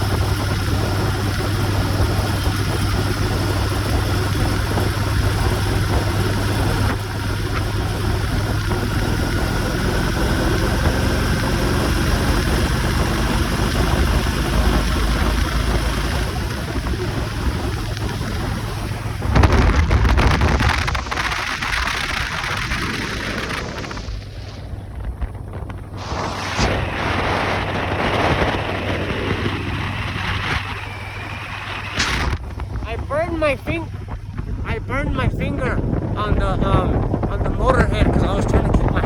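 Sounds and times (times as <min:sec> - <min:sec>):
motorcycle engine running: 0:00.0 - 0:39.0
wind rush on microphone: 0:00.0 - 0:39.0.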